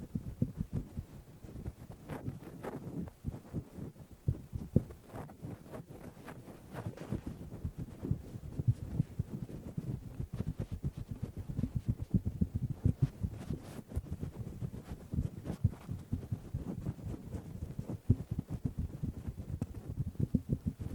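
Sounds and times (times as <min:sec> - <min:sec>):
fingers scratching covered microphone: 0:00.0 - 0:20.9.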